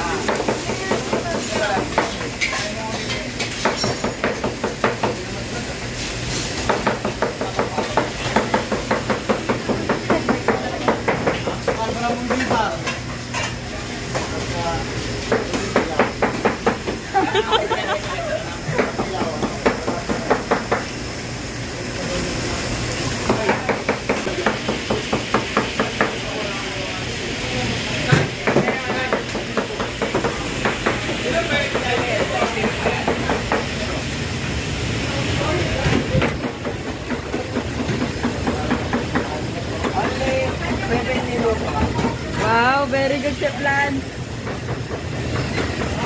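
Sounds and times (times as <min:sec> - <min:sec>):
burners hissing and frying: 0:00.0 - 0:46.0
kitchen ventilation rush: 0:00.0 - 0:46.0.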